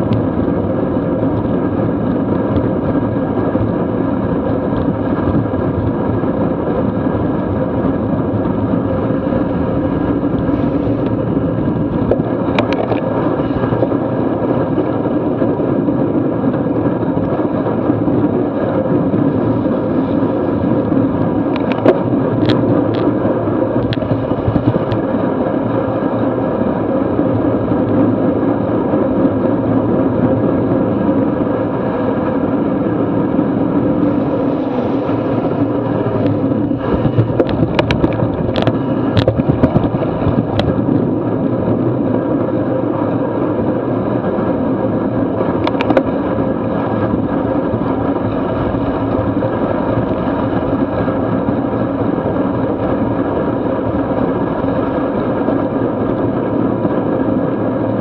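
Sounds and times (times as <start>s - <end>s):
bike tyres on wet road: 0.0s - 58.0s
wind on microphone: 0.0s - 58.0s.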